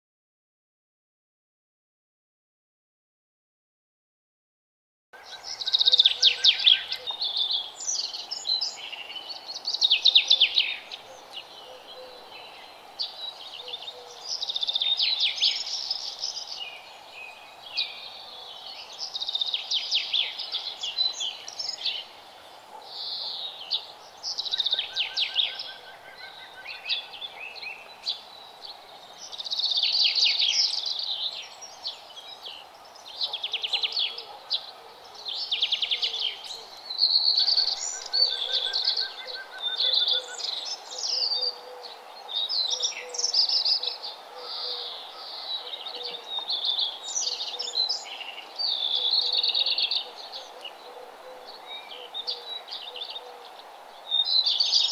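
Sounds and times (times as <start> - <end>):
birds chirping with rapid trills: 5.2 - 54.9
steady background hiss: 5.2 - 54.9.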